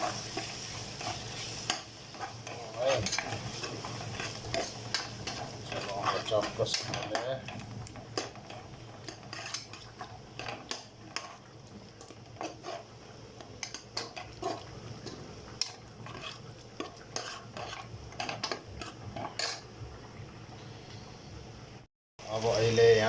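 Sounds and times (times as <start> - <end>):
utensil scraping and clinking pan: 0.0 - 12.9, 13.6 - 19.6
low sizzle: 0.0 - 23.0.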